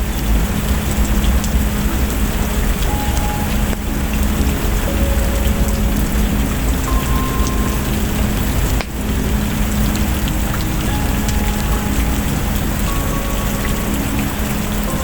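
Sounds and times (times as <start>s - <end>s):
deep low rumble: 0.0s - 15.0s
heavy rain: 0.0s - 15.0s.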